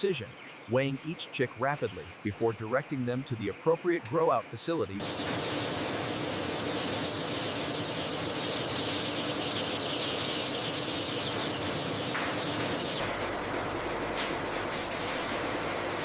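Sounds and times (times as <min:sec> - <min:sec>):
chicks peeping: 0:00.0 - 0:16.0
conveyor machinery hum: 0:00.0 - 0:16.0.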